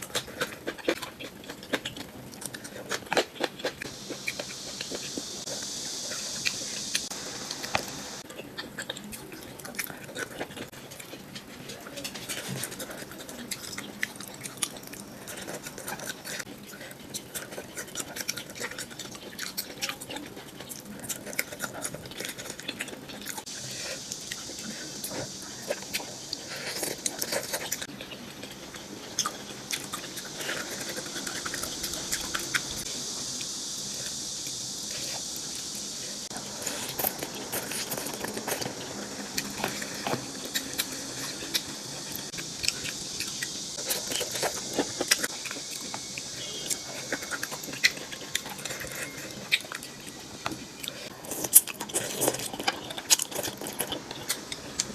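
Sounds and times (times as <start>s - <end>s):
chewing clicks and smacks: 0.0s - 54.9s
steady high hiss: 0.0s - 54.9s.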